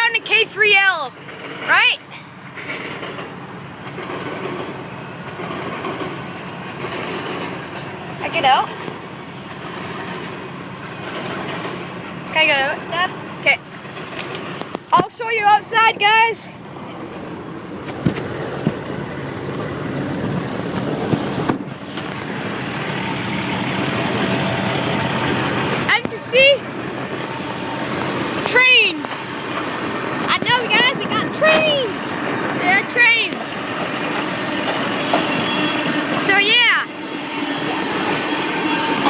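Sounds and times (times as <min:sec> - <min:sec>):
train cars rolling on rails: 0:00.0 - 0:39.0.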